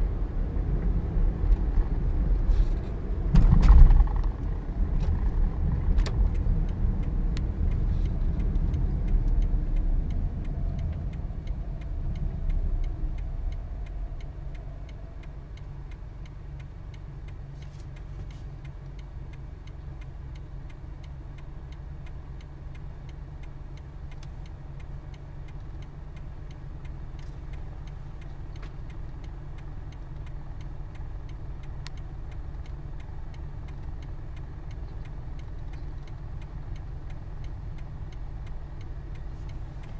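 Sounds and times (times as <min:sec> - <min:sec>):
car engine and road noise: 0:00.0 - 0:39.9
faint ticking: 0:06.1 - 0:39.9.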